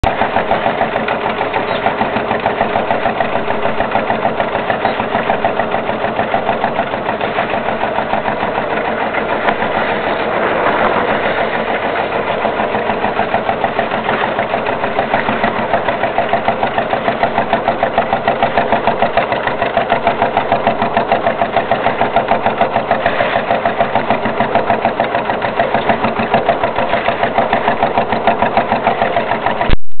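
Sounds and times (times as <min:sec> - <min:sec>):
diesel engine chugging: 0:00.0 - 0:29.7.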